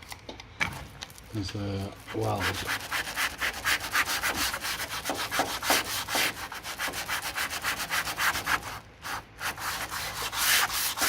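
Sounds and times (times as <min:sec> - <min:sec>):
hand sanding rasping strokes: 0:02.0 - 0:11.0.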